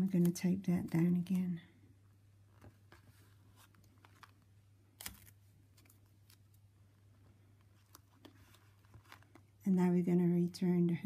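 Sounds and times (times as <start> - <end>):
hands handling fabric and tape: 0.0 - 9.6.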